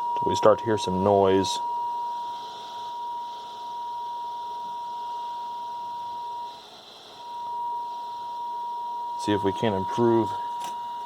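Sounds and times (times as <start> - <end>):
radio noise hiss: 0.0 - 8.5, 9.2 - 10.8
steady test tone through radio: 0.0 - 11.0.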